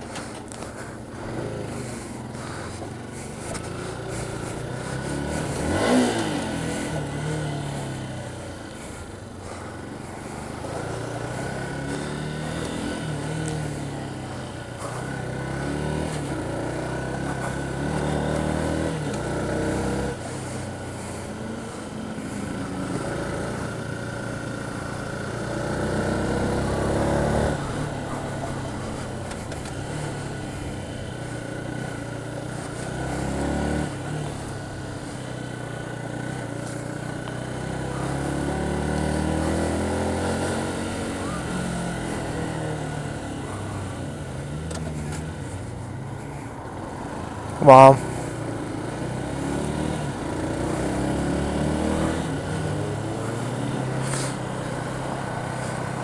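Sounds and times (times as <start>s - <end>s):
motorcycle engine accelerating: 0.0s - 56.0s
road and wind noise: 0.0s - 56.0s.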